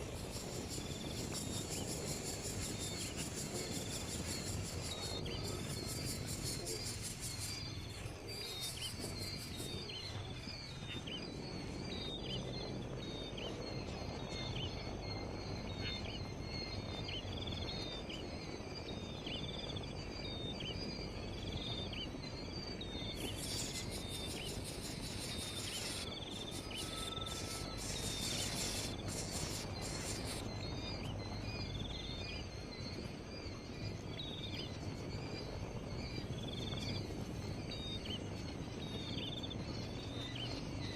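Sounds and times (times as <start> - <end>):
bird chirping: 0.0 - 18.4, 19.0 - 40.9
insects humming and buzzing: 0.0 - 40.9.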